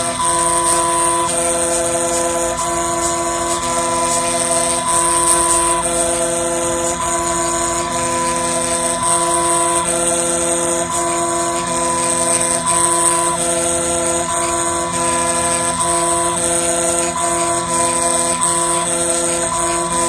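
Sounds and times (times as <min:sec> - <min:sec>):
spindle high whine: 0:00.0 - 0:20.0
stepper motors whining: 0:00.0 - 0:20.0.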